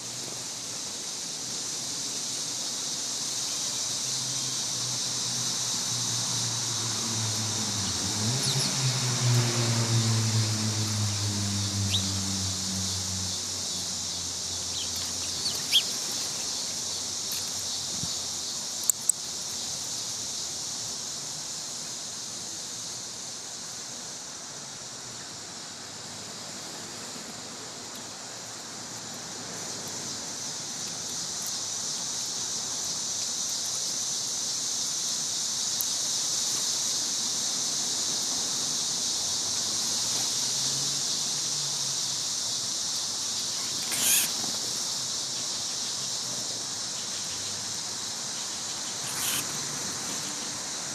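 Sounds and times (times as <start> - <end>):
cicadas droning: 0.0 - 50.9.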